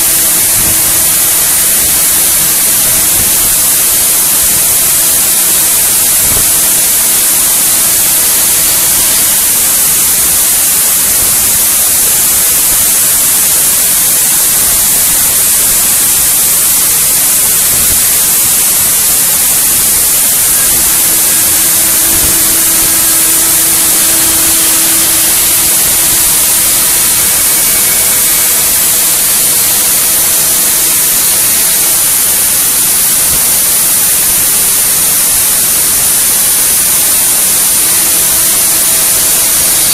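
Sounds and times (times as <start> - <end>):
cnc machine loud hiss: 0.0 - 39.9
faint steady hum: 0.0 - 39.9.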